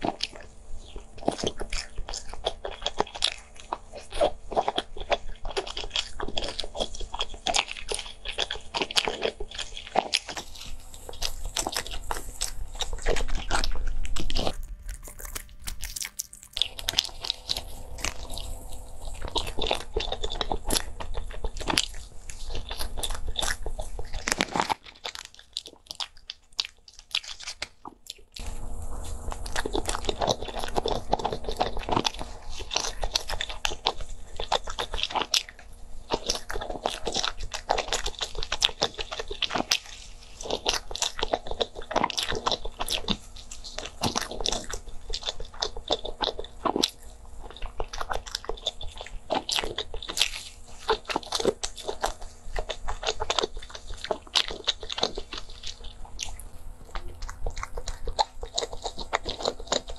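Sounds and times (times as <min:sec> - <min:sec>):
chewing with mouth clicks: 0:00.0 - 0:59.9
low steady hum: 0:00.0 - 0:59.9.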